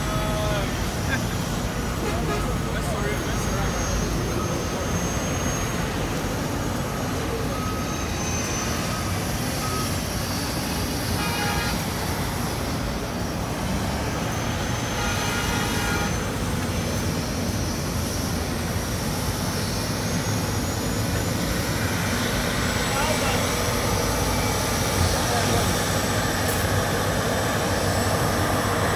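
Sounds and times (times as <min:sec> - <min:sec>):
excavator diesel engine rumbling: 0:00.0 - 0:28.9.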